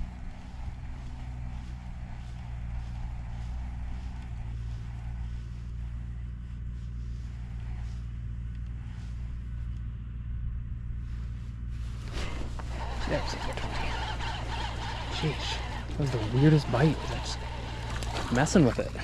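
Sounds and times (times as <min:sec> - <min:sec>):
motor humming: 0:00.0 - 0:09.9, 0:11.8 - 0:19.0.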